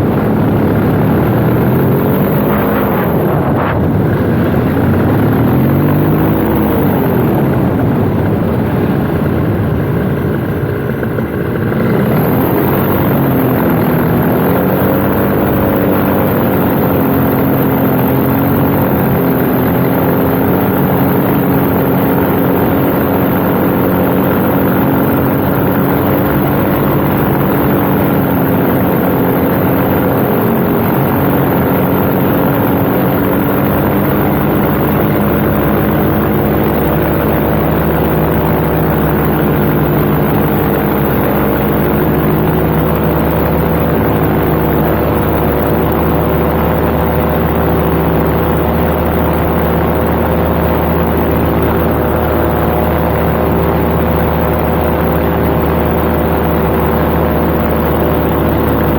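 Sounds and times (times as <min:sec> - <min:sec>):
paramotor engine and propeller: 0:00.0 - 0:58.9
wind noise: 0:00.0 - 0:58.9.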